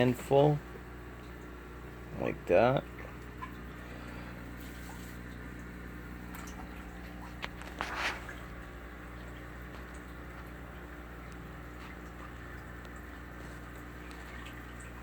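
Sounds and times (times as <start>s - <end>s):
small water splashes and drips: 0.0s - 15.0s
steady low hum: 0.0s - 15.0s.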